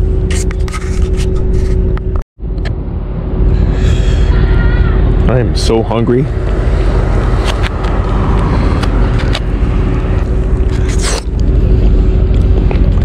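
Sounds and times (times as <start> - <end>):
wind rumbling on microphone: 0.1 - 13.0.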